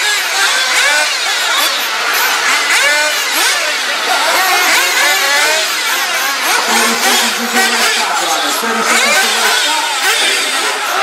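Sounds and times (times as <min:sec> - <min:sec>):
rc buggy engines revving: 0:00.0 - 0:11.0.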